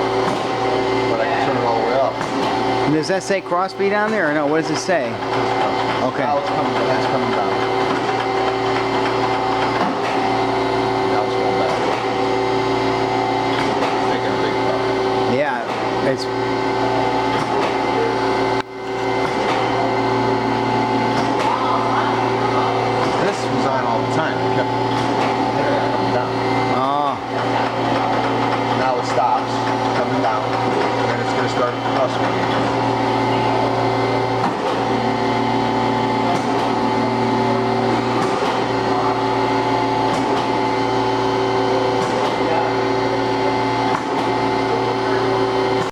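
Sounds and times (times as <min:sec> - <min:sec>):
surface grinder humming: 0:00.0 - 0:45.9.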